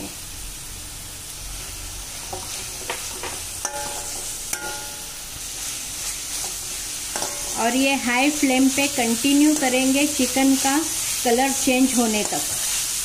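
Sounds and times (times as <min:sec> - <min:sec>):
chicken sizzling in oil: 0:00.0 - 0:13.0
metal spatula scraping wok: 0:01.5 - 0:13.0.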